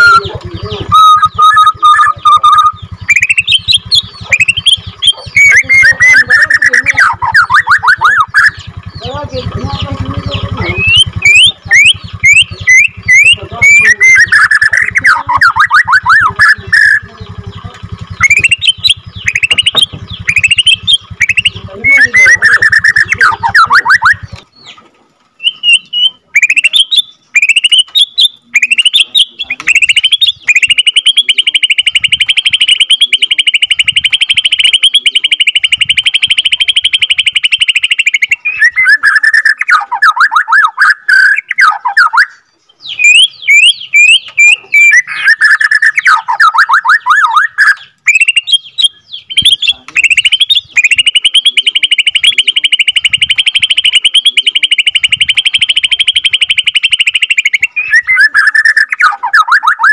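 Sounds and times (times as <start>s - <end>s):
bird singing whistled notes: 0.0s - 24.8s, 25.4s - 59.9s
bird rapid trill: 0.0s - 59.9s.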